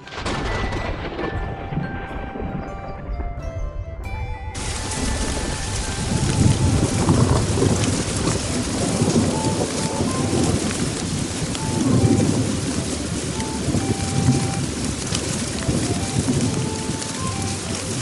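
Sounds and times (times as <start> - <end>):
heavy rain falling: 0.0 - 2.8, 4.6 - 18.0
thunder rumbling: 0.0 - 18.0.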